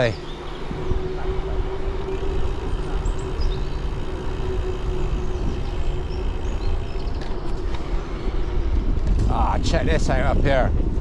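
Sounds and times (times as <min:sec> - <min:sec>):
steady hum: 0:00.0 - 0:10.2
small birds chirping: 0:00.0 - 0:10.6
bike tyre rumble: 0:00.0 - 0:11.0
wind rushing over camera: 0:00.0 - 0:11.0.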